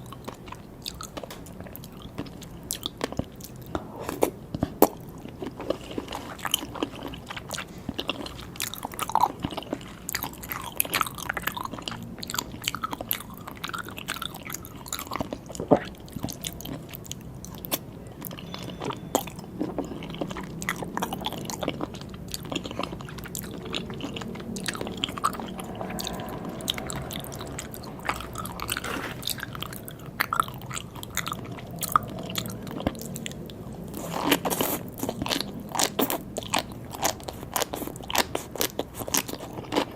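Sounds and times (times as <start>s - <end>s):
close chewing and biting: 0.0s - 39.9s.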